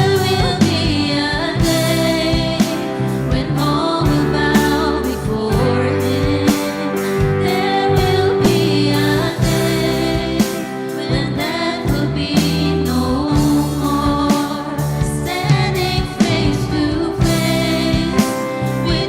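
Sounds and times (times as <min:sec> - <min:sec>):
people singing: 0:00.0 - 0:19.0
steady drum beat: 0:00.0 - 0:19.0
sustained bass: 0:00.0 - 0:19.0
worship band playing: 0:00.0 - 0:19.0.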